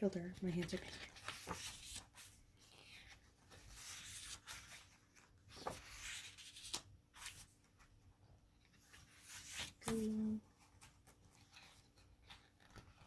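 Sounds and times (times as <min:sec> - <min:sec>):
paper rustling: 0:00.4 - 0:08.0, 0:08.6 - 0:13.0.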